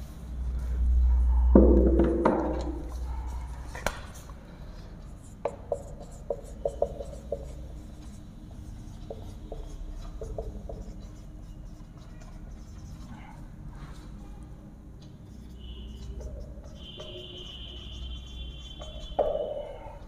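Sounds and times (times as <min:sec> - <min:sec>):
marker writing on whiteboard: 0:01.6 - 0:20.0.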